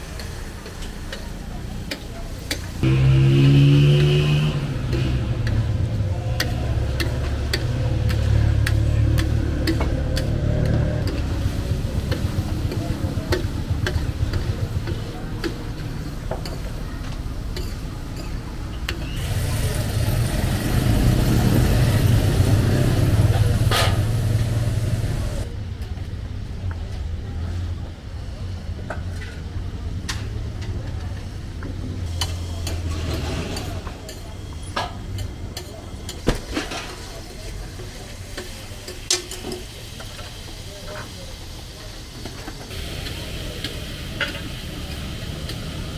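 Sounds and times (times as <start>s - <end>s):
vehicle engines rumbling: 0.0s - 45.9s.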